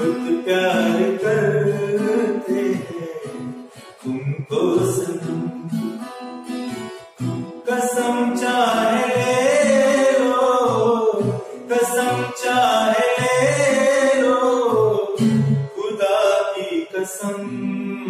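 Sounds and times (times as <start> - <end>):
man singing: 0.0 - 6.1, 7.6 - 18.0
strummed acoustic guitar: 0.0 - 18.0.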